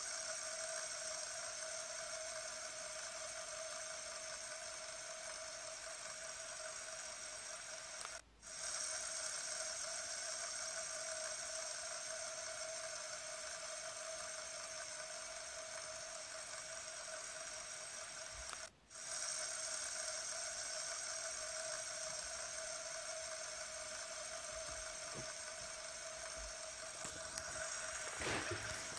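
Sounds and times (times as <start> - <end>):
fidget spinner whirring: 0.0 - 28.9.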